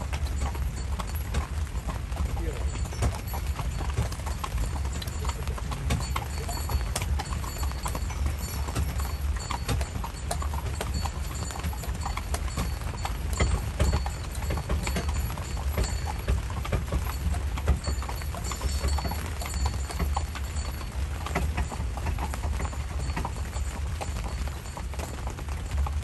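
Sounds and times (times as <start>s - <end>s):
horse hooves clip-clopping: 0.0s - 26.0s.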